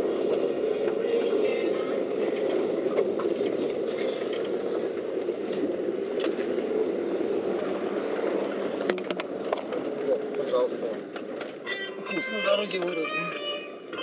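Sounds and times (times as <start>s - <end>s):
car engine and tyre noise: 0.0s - 14.0s.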